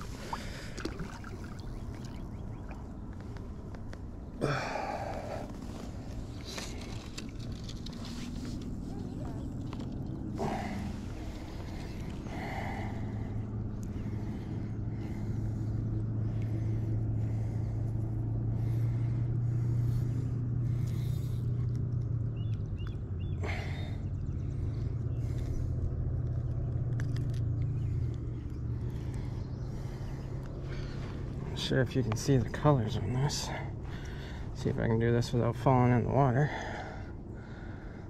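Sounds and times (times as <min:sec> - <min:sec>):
passing engine hum: 0:00.0 - 0:38.0.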